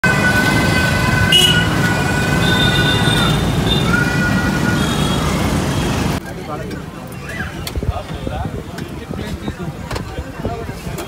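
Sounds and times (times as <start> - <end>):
motorcycle engine and road noise: 0.0 - 11.0.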